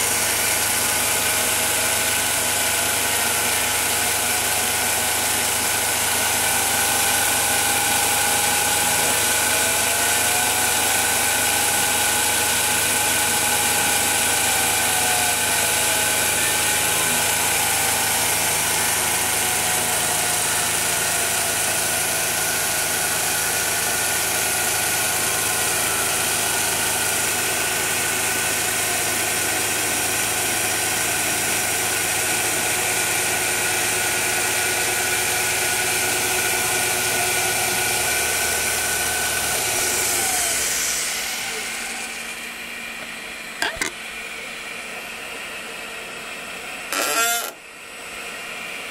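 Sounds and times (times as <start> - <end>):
milling machine hum and hiss: 0.0 - 48.9.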